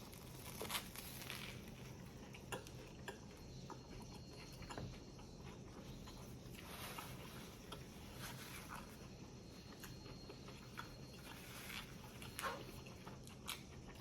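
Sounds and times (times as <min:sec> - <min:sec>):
low background hum: 0:00.0 - 0:14.0
person chewing a sandwich: 0:00.0 - 0:14.0.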